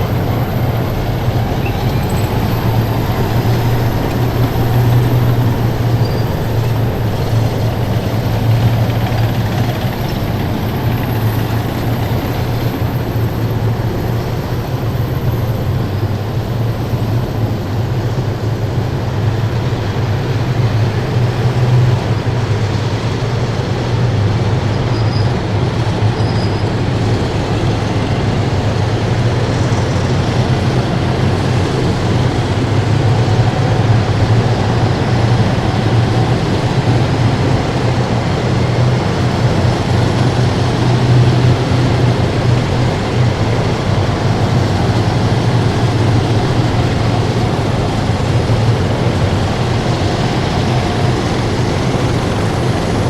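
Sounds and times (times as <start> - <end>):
heavy vehicles driving past: 0.0 - 53.0.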